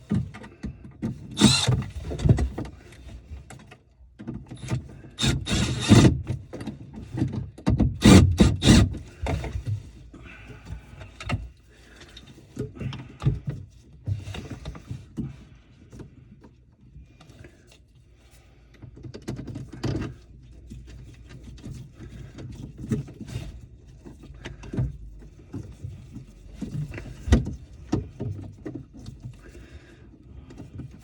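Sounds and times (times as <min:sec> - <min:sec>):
knocks and clicks of plumbing work: 0:00.0 - 0:17.7, 0:18.7 - 0:31.0.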